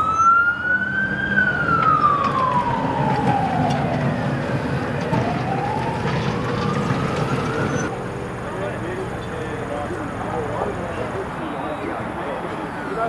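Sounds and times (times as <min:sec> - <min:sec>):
siren wailing: 0:00.0 - 0:08.4, 0:09.0 - 0:13.0.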